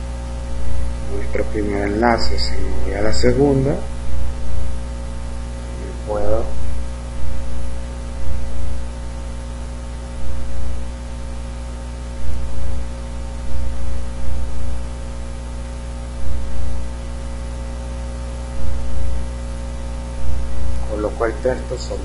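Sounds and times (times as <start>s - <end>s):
soft low thumps: 0.0s - 21.8s
constant hiss: 0.0s - 22.0s
electrical mains hum: 0.0s - 22.0s.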